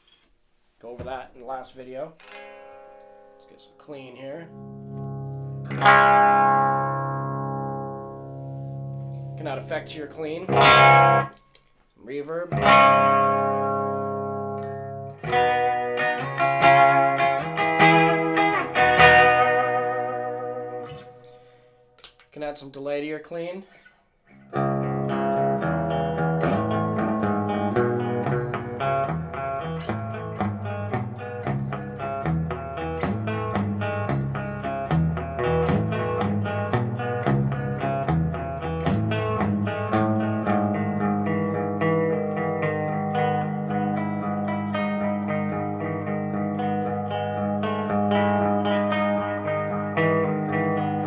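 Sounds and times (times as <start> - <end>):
clean electric guitar with delay: 4.4 - 11.4, 12.5 - 21.4, 24.4 - 51.0.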